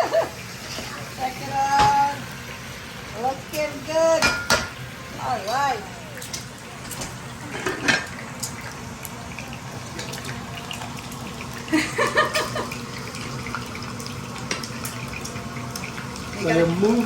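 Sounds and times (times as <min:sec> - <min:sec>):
eggs sizzling in hot oil: 0:00.0 - 0:17.0.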